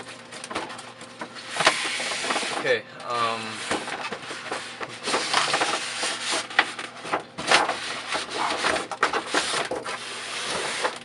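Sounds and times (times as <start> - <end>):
box packaging rubbing and scraping: 1.4 - 11.0.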